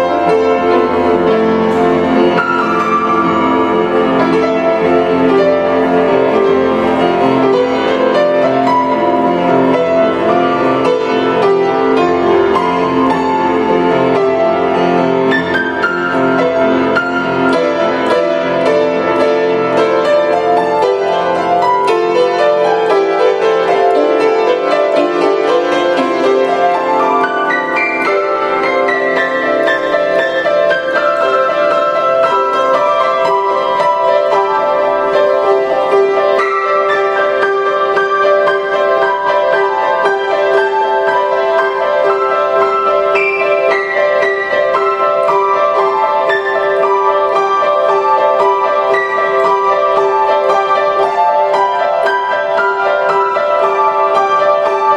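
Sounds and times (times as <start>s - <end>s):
grand piano playing: 0.0s - 54.9s.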